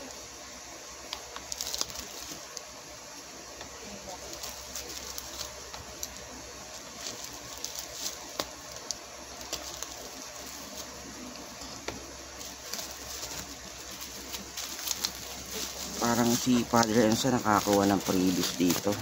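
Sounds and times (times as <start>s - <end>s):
bubble wrap crinkling: 0.0s - 19.0s
steady hiss: 0.0s - 19.0s.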